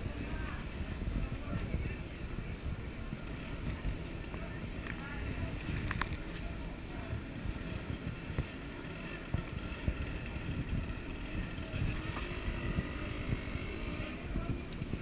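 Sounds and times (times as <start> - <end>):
faint crowd voices: 0.0 - 15.0
wind buffeting microphone: 0.0 - 15.0.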